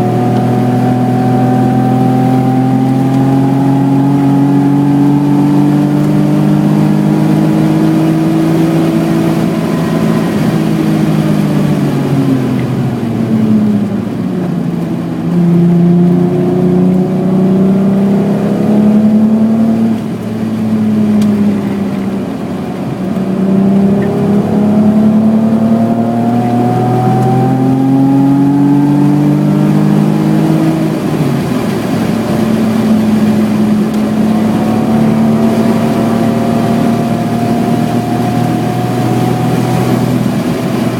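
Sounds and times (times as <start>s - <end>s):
car engine revving hard: 0.0s - 40.9s.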